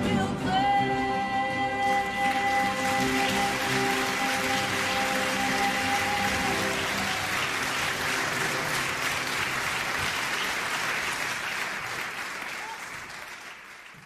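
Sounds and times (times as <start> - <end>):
audience applauding: 2.0 - 14.0.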